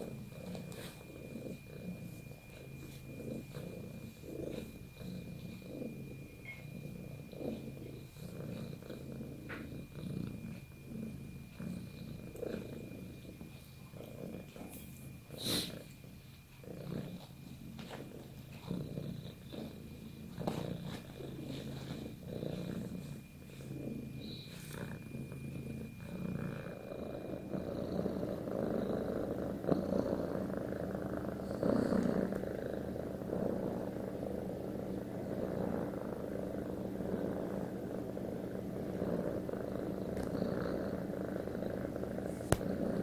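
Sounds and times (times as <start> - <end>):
cat purring: 0.0 - 43.0.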